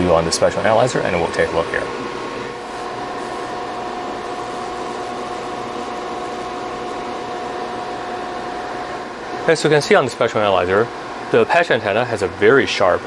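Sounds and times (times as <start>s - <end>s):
cooling fans whirring: 0.0s - 13.0s
faint steady hums: 0.0s - 13.0s.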